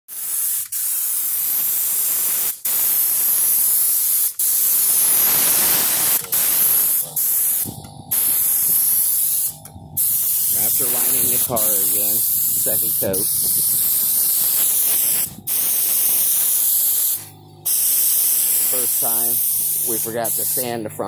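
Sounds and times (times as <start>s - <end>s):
spray gun hissing: 0.1s - 20.9s.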